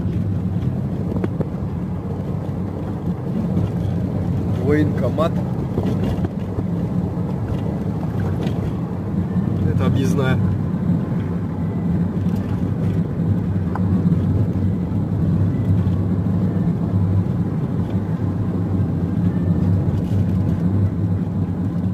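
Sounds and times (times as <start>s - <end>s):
car engine and tyres droning: 0.0s - 21.9s.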